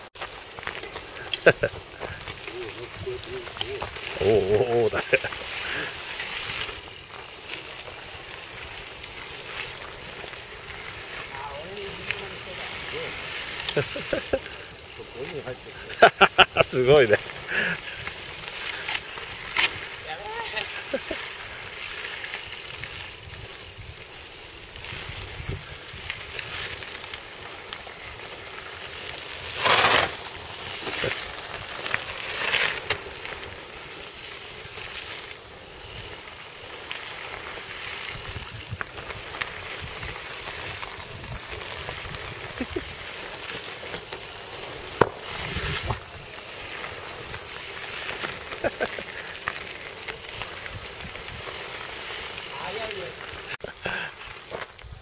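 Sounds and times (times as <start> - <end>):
bike tyres rolling on gravel: 0.0 - 55.0
gritty tyre scrapes: 0.0 - 55.0
steady hiss: 0.0 - 55.0.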